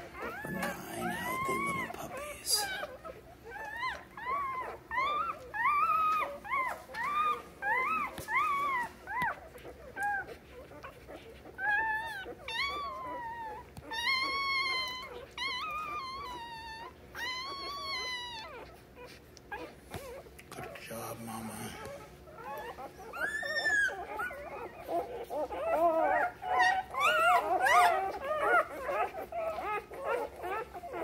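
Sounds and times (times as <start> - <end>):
puppies squeaking and whimpering: 0.0 - 31.0.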